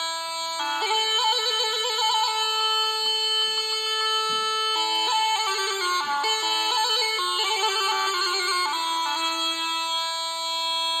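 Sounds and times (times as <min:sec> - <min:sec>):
wind instrument melody with trills: 0:00.0 - 0:11.0.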